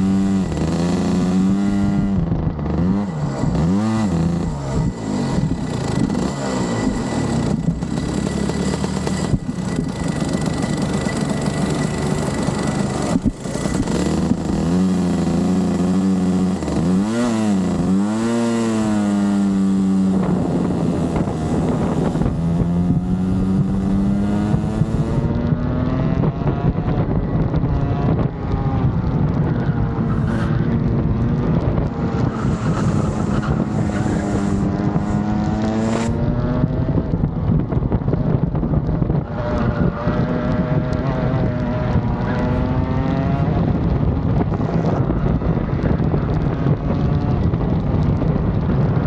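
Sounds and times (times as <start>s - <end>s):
kart engine racing: 0.0s - 49.0s.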